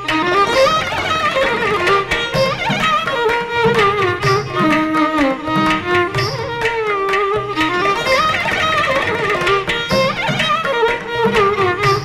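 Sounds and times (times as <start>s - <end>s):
violin melody with gliding notes: 0.0s - 12.0s.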